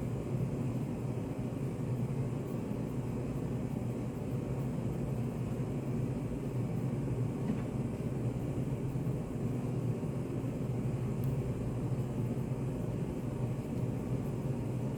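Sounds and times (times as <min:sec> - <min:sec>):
room ambience machine hum: 0:00.0 - 0:14.9.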